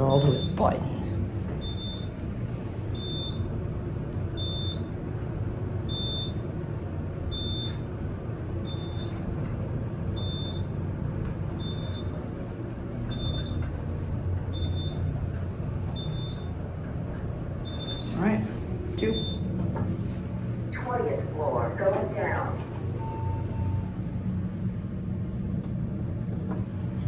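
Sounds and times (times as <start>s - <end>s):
elevator ride rumble: 0.0s - 27.0s.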